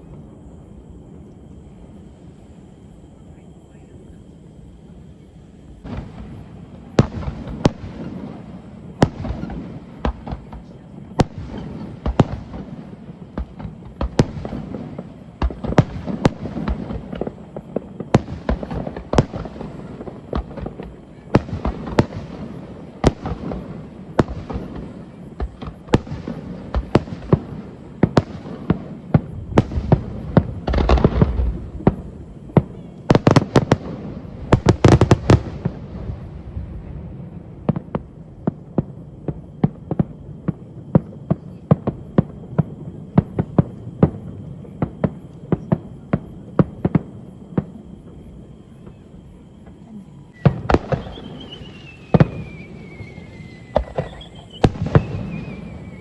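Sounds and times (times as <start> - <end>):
fireworks bangs: 3.3 - 56.0
rapid fireworks popping: 4.9 - 56.0.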